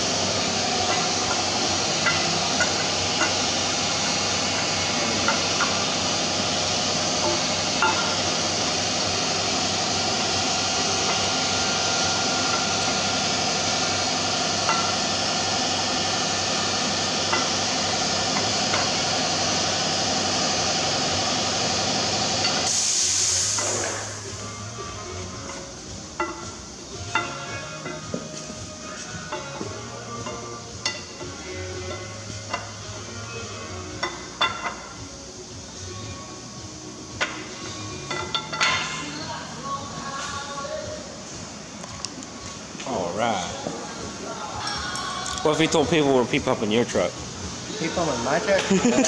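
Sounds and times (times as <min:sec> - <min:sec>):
loud steady rushing noise: 0:00.0 - 0:44.6.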